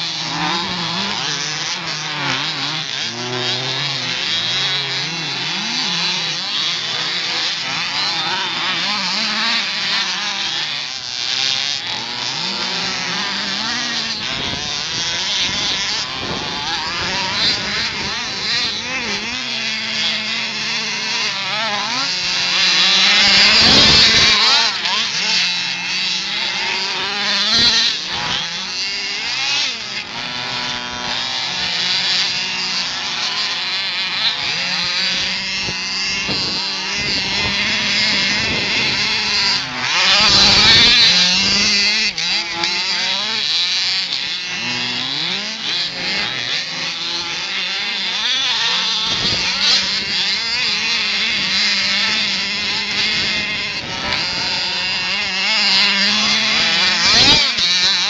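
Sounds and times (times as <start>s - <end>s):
small engines buzzing and revving: 0.0s - 58.0s.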